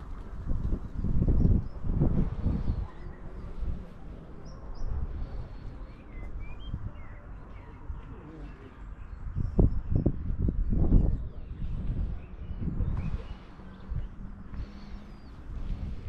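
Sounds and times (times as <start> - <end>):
wind on microphone: 0.0 - 16.0
small birds chirping: 0.9 - 16.0.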